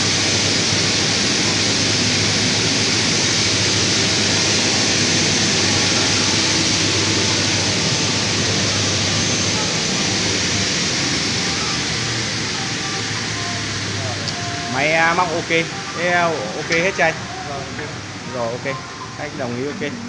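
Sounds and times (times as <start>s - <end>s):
low machinery hum: 0.0s - 20.0s
machinery hiss: 0.0s - 20.0s.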